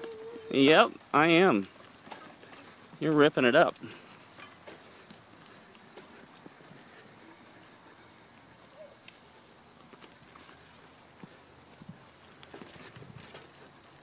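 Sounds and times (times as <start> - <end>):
bike rolling over dirt trail: 0.0 - 8.5, 9.2 - 14.0
footsteps on trail: 0.0 - 14.0.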